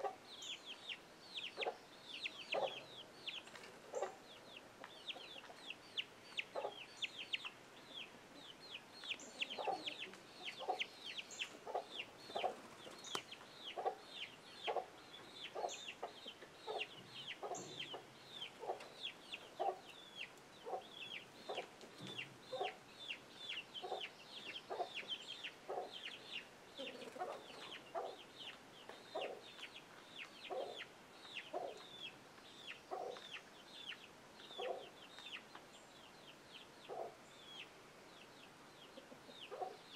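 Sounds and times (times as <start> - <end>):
hen clucking: 0.0 - 35.6, 38.8 - 39.9
chicks peeping: 0.0 - 39.9.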